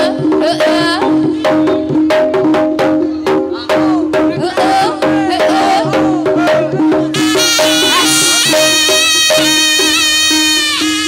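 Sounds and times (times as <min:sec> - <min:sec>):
bending melodic line: 0:00.0 - 0:11.0
drum strokes: 0:00.0 - 0:11.0.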